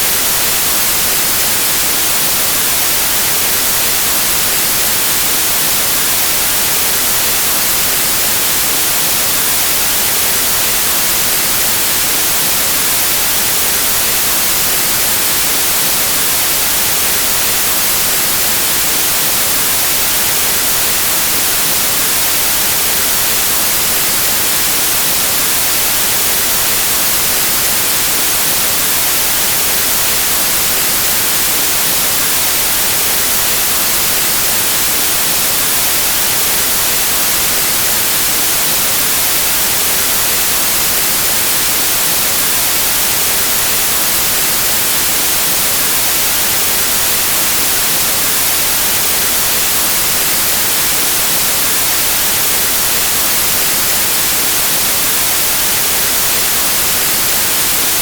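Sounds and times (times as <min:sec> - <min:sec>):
white noise static hiss: 0:00.0 - 0:58.0.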